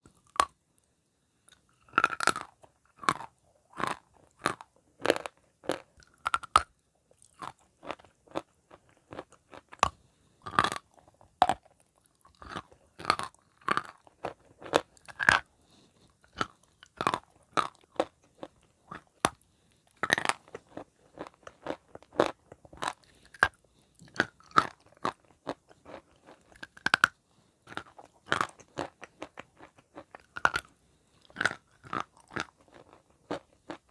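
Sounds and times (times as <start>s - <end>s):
chalk being chewed with crunches: 1.5s - 33.9s.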